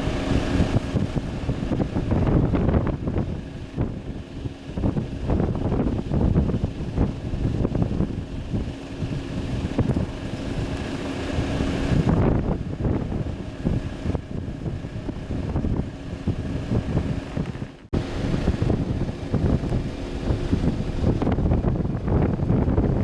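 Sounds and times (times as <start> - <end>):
jet engines humming: 0.0 - 23.0
wind buffeting microphone: 0.0 - 23.0.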